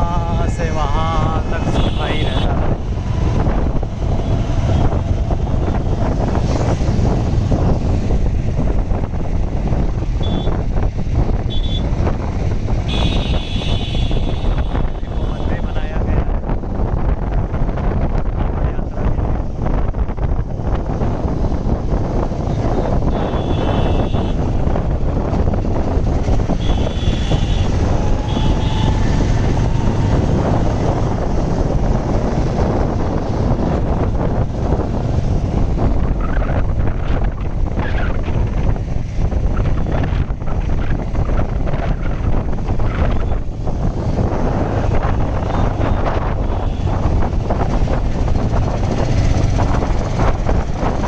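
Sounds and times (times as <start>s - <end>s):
motorcycle engine and road rumble: 0.0s - 51.0s
wind buffeting microphone: 0.0s - 51.0s.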